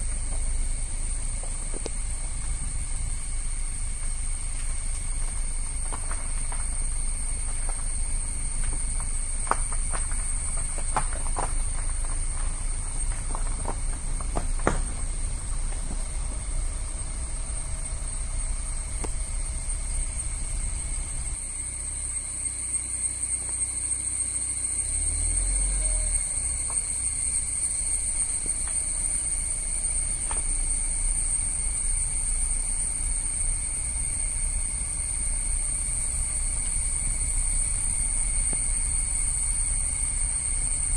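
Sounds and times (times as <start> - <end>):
low rumble: 0.0 - 21.4, 25.2 - 40.9
insects droning: 0.0 - 40.9.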